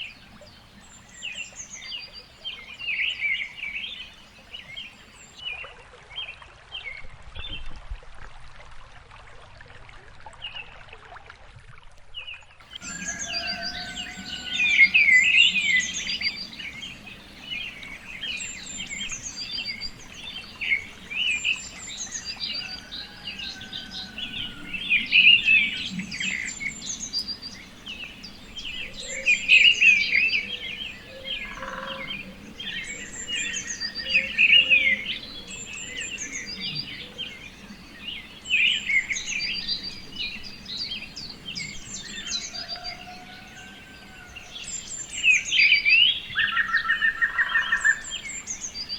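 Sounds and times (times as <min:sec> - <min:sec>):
songbirds chirping: 0:00.0 - 0:05.5, 0:12.4 - 0:48.9.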